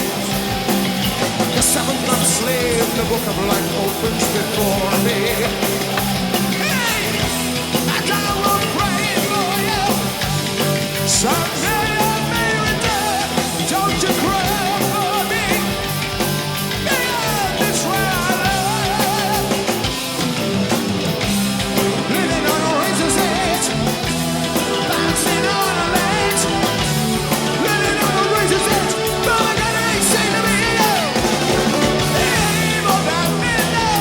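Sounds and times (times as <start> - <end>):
rock music with guitar: 0.0 - 34.0.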